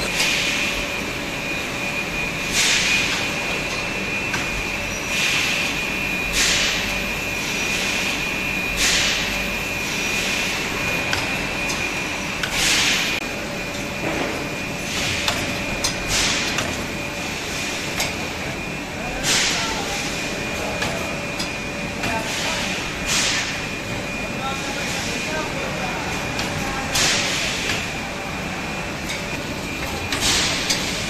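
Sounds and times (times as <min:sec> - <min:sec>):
packing machine running with whine: 0:00.0 - 0:31.0.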